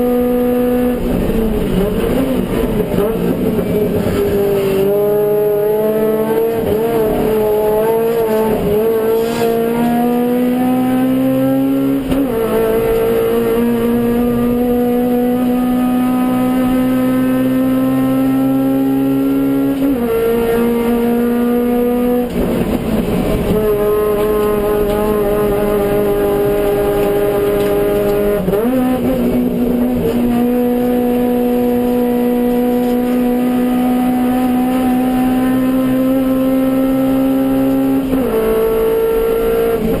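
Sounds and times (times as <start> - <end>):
car engine revving hard: 0.0 - 40.0.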